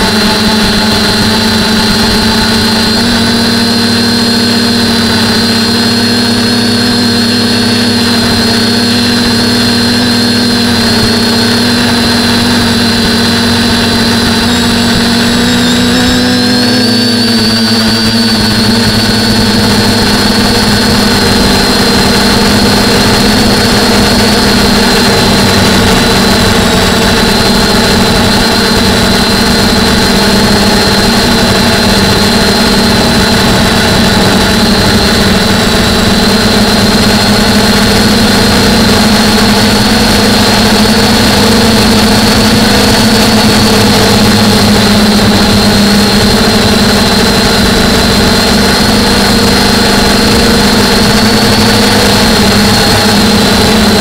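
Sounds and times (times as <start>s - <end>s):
quadcopter motors droning: 0.0s - 54.0s.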